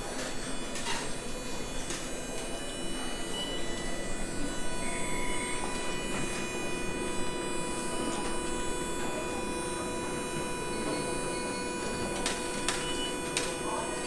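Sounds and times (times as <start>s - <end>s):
tram electrical equipment humming: 0.0s - 14.0s.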